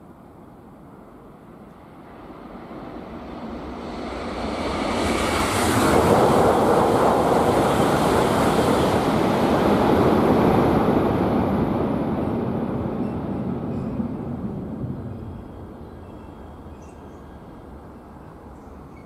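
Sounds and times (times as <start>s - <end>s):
high-speed train rushing past: 0.0s - 19.0s.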